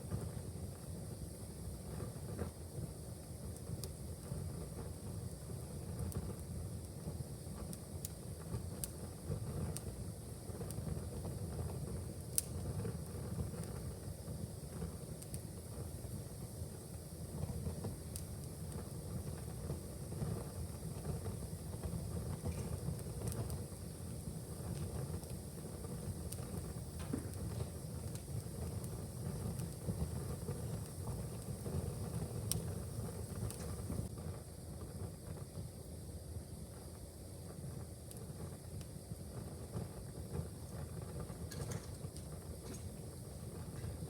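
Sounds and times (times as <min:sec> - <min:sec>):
fire crackling and popping: 0:00.0 - 0:44.0
fire flames rumbling: 0:00.0 - 0:44.0.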